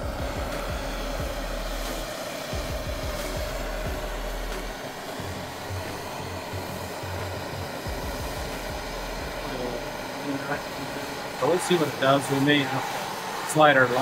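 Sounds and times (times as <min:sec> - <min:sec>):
propane torch hissing: 0:00.0 - 0:14.0.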